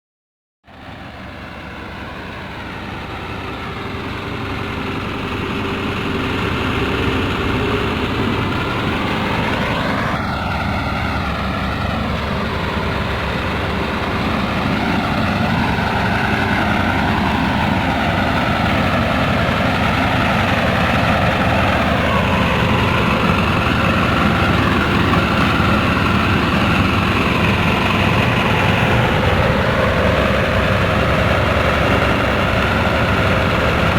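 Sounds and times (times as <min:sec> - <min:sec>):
construction machinery diesel engine: 0:00.7 - 0:33.9.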